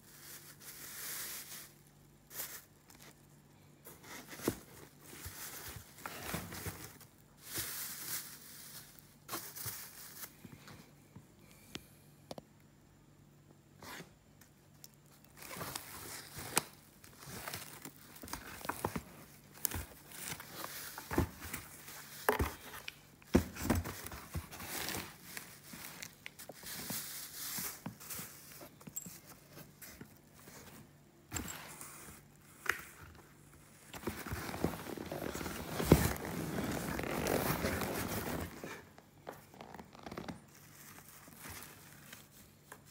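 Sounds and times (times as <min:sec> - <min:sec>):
plastic and foam packaging crinkling: 0:00.0 - 0:10.7, 0:14.9 - 0:42.9.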